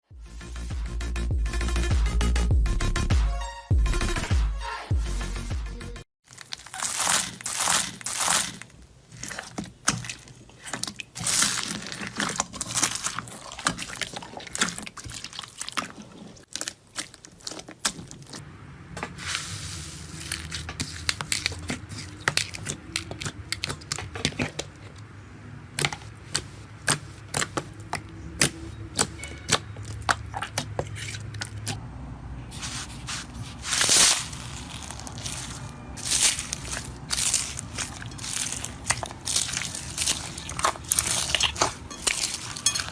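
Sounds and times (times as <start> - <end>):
slime squishing by hand: 6.2 - 18.4, 19.0 - 25.0, 25.7 - 31.8, 32.5 - 42.9.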